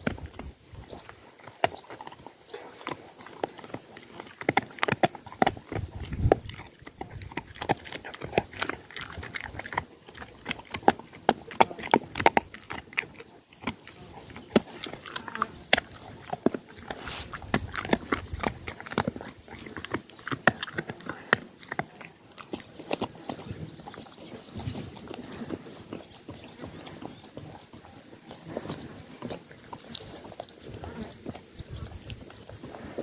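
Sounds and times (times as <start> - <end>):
dog chewing: 0.0 - 33.0.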